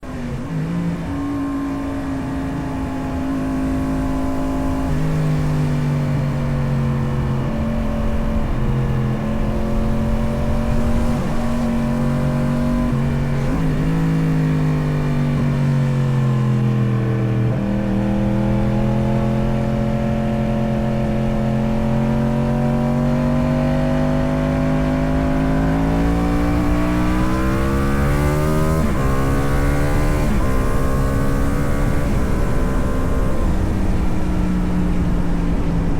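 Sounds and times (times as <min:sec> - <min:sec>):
motorcycle engine running: 0:00.1 - 0:35.9.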